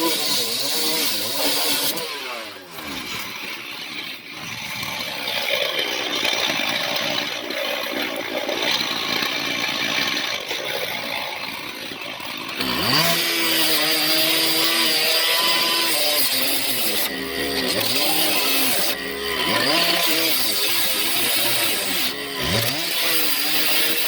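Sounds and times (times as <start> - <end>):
gas-powered saw cutting metal: 0.0 - 24.0.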